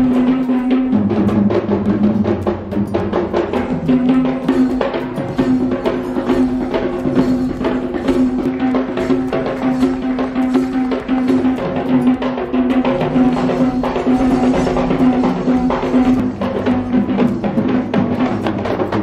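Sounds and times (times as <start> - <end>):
barrel drums beaten by hand: 0.0 - 19.0.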